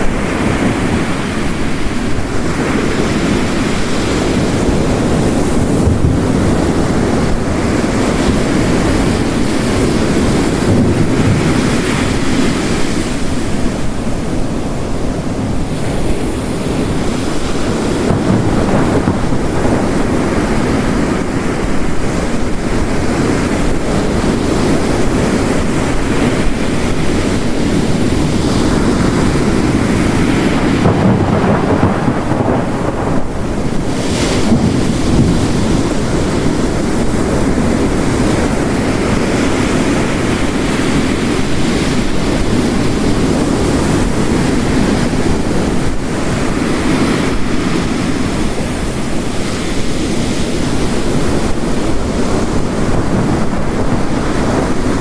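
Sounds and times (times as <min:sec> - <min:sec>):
heavy rain: 0:00.0 - 0:55.0
ocean waves crashing on rocks: 0:00.0 - 0:55.0.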